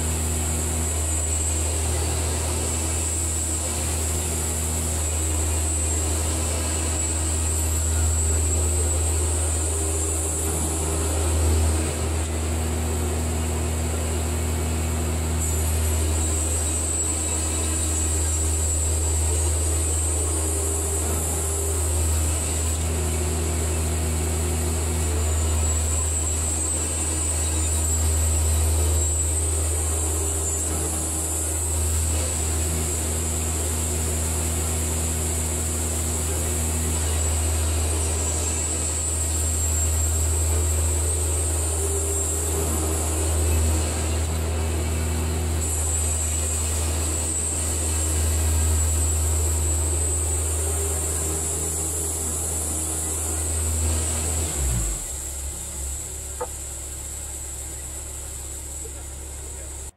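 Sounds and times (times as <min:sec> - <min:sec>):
bandsaw mill cutting log: 0:00.0 - 0:59.9.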